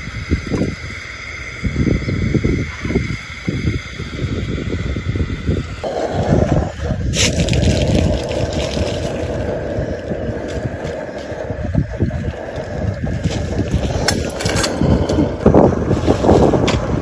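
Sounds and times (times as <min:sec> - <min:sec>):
food deep-frying in oil: 0:00.0 - 0:14.4
wind on microphone: 0:00.0 - 0:17.0.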